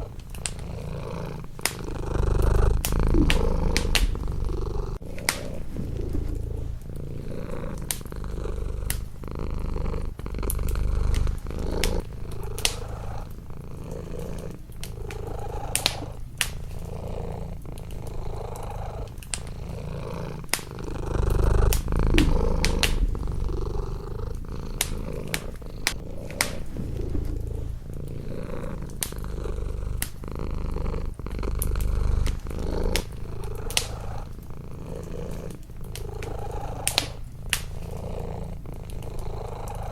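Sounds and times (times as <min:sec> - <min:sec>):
cat purring: 0:00.0 - 0:39.9
wood fire crackling: 0:00.0 - 0:39.9
fire pops: 0:01.5 - 0:08.1, 0:10.0 - 0:17.0, 0:17.7 - 0:30.4, 0:31.0 - 0:38.0.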